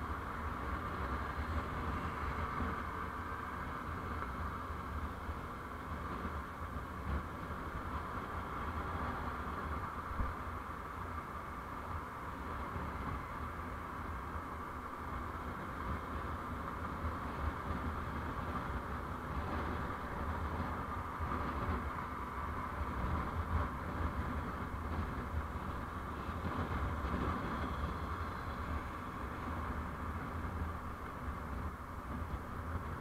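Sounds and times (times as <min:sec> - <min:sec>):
vehicle engine: 0:00.0 - 0:33.0
wind noise: 0:00.0 - 0:33.0.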